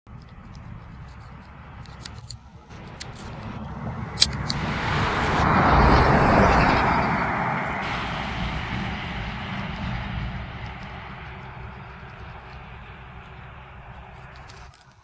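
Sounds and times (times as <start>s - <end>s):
truck passing on road: 0.2s - 15.0s.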